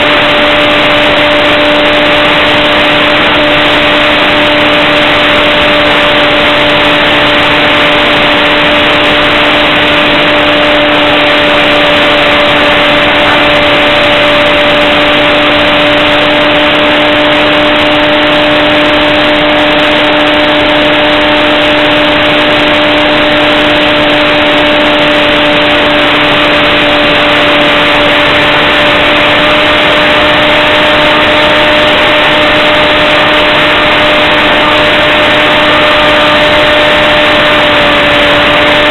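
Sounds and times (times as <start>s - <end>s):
model airplane motor droning: 0.0s - 38.9s
rushing air: 0.0s - 38.9s.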